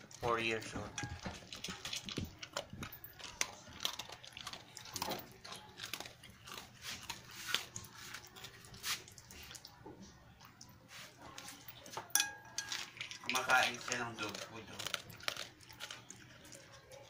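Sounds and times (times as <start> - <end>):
dog crunching dry kibble: 0.0 - 9.8, 11.3 - 17.0.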